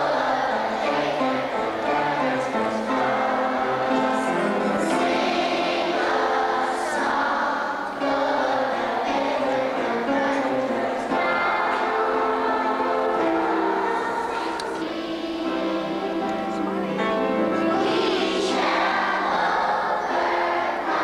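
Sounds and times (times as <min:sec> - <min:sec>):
choir singing sustained notes: 0:00.0 - 0:21.0.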